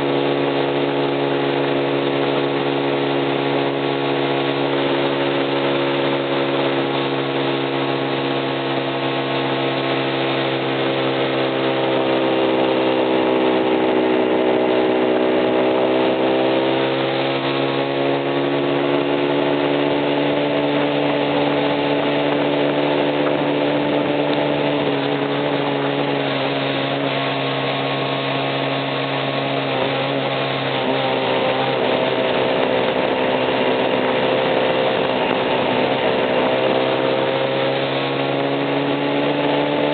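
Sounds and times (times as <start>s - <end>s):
small motorcycle engine running: 0.0s - 39.9s.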